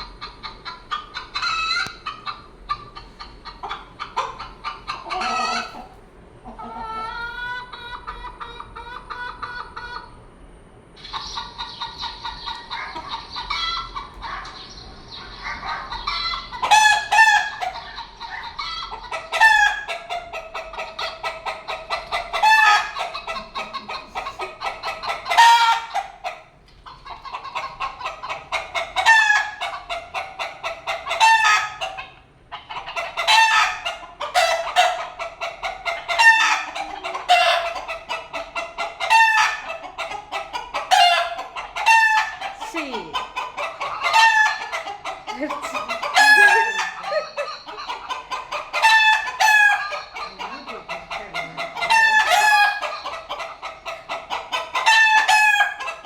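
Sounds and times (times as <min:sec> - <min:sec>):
hen cackling: 0:00.0 - 0:56.0.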